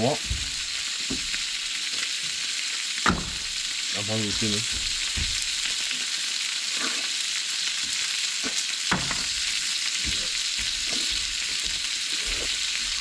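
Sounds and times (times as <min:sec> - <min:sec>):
food sizzling on barbecue: 0:00.0 - 0:13.0.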